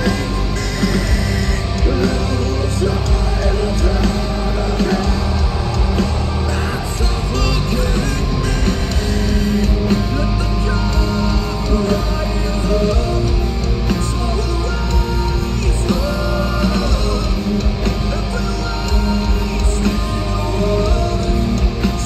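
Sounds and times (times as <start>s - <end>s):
heavy rock band playing: 0.0s - 22.0s
lead singer vocals: 0.0s - 22.0s.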